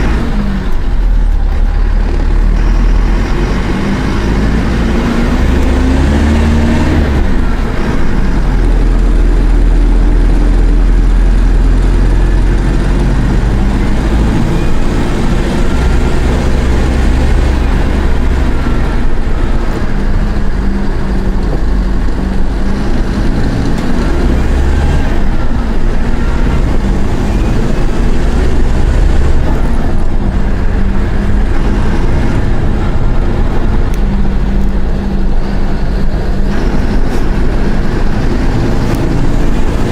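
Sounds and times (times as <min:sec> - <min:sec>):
bus diesel engine under load: 0:00.0 - 0:39.9.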